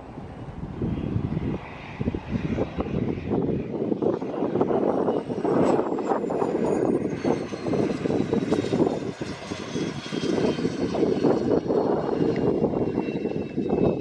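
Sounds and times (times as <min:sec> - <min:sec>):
airplane engine rumble: 0:00.0 - 0:14.0
high engine whine: 0:00.0 - 0:14.0.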